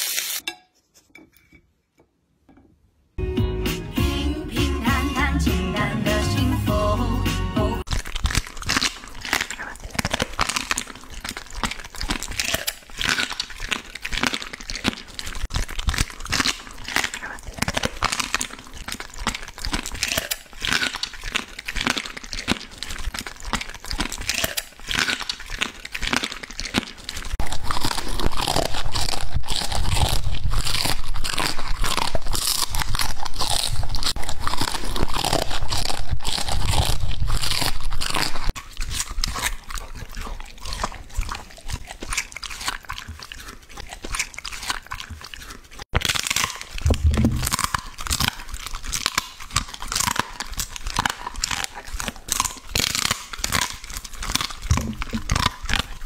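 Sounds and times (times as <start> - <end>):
dog crunching bone: 7.8 - 56.0.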